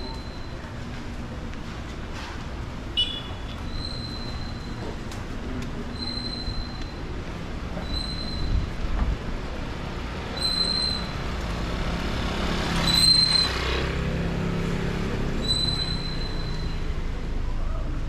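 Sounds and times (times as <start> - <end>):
street traffic rumbling: 0.0 - 18.0.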